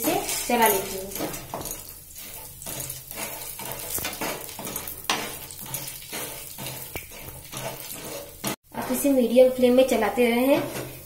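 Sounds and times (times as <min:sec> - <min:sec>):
light sizzle of oil: 0:00.0 - 0:11.0
metal spoon scraping a pan: 0:00.0 - 0:11.0.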